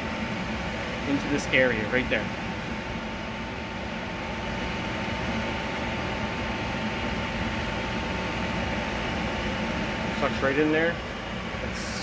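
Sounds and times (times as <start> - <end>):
microwave vent fan whirring: 0.0 - 12.0.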